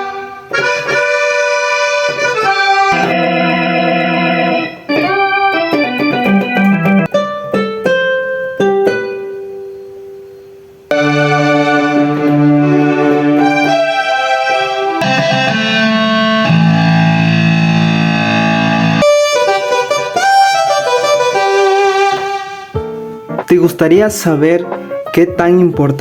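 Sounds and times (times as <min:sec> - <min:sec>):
electronic keyboard chords and melody: 0:00.0 - 0:09.6, 0:10.9 - 0:26.0.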